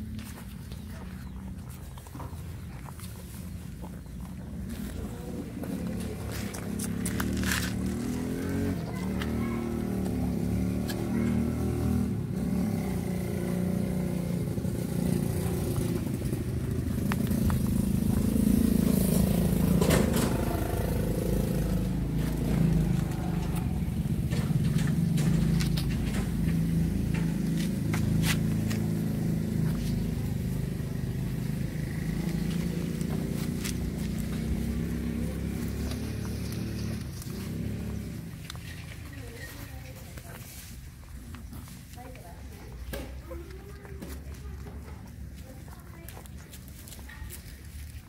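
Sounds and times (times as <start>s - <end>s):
motor engine humming: 0.0s - 46.8s.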